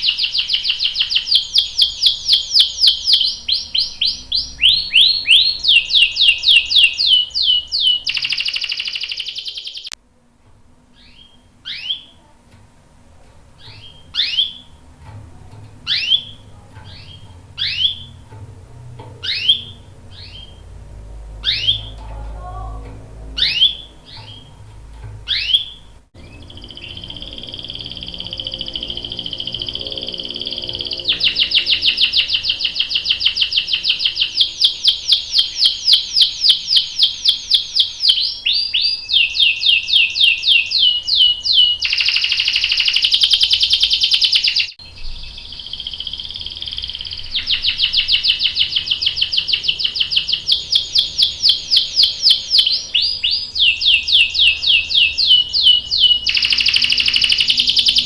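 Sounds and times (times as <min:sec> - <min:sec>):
canary singing: 0:00.0 - 0:10.0, 0:10.9 - 0:12.6, 0:13.2 - 0:58.0.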